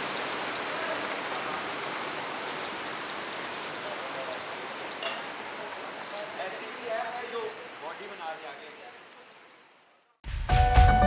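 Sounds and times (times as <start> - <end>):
small waterfall rushing: 0.0 - 10.1.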